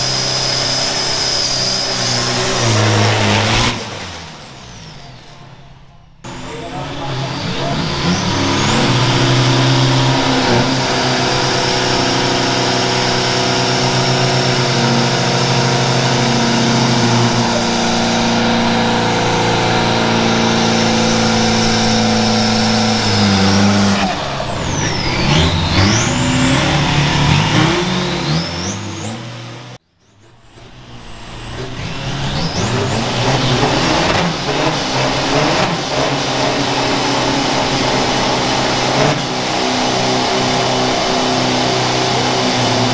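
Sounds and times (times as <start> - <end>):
diesel engines revving high: 0.0 - 42.9.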